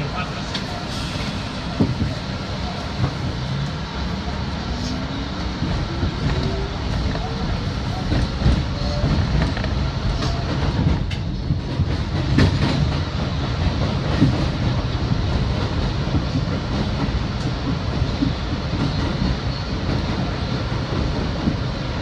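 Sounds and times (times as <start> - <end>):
subway car low rumble: 0.0 - 22.0.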